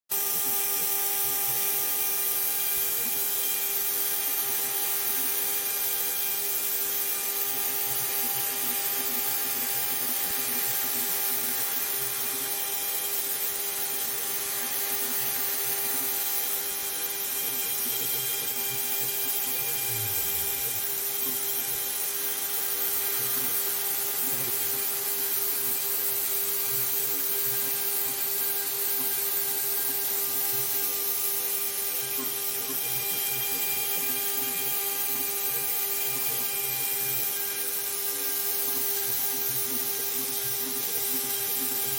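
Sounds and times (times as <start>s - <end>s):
spindle motor whine: 0.1s - 41.9s.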